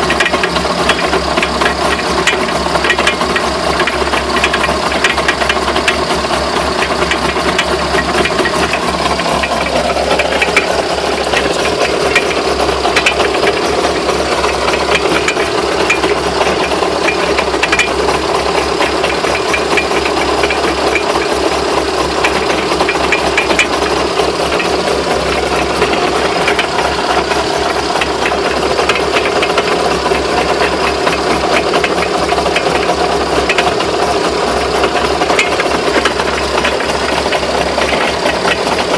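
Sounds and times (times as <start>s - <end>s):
car engine running: 0.0s - 38.9s
drivetrain knocking and rattling: 0.0s - 38.9s.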